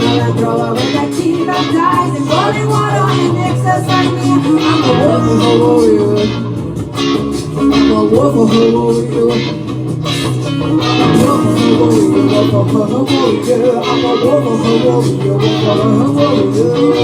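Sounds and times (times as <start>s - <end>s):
bass line: 0.0s - 17.0s
guitar music: 0.0s - 17.0s
regular beat: 0.0s - 17.0s.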